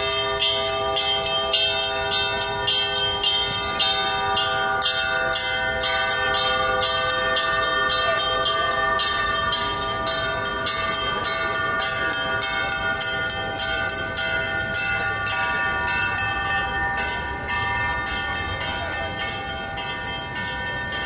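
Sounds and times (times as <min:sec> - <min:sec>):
hum of large bells: 0:00.0 - 0:21.0
small church bells ringing: 0:00.0 - 0:21.0.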